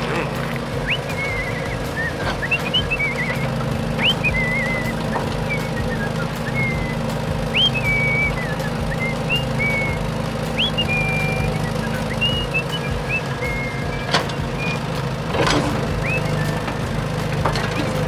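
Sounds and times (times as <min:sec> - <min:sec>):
steady low hum: 0:00.0 - 0:18.0
whistled chirps: 0:00.4 - 0:18.0.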